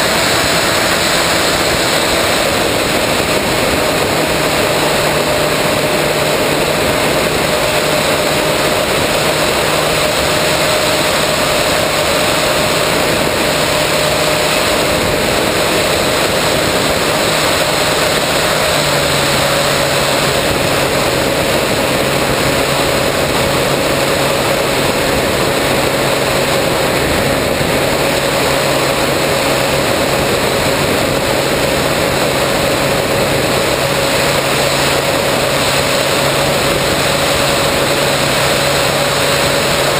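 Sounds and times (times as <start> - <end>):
electric motor and propeller running: 0.0 - 39.9
wind rushing: 0.0 - 39.9.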